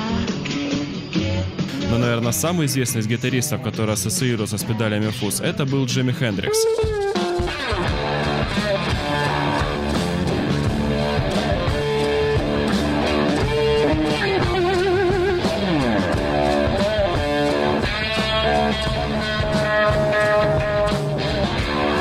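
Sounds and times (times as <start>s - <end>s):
distorted electric guitar lead: 0.0s - 22.0s.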